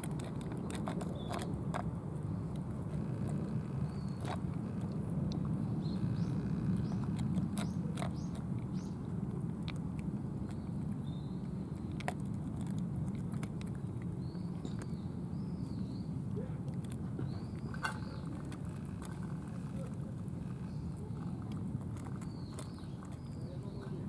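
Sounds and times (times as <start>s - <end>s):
cats chewing food: 0.0s - 24.0s
steady low rumble: 0.0s - 24.0s.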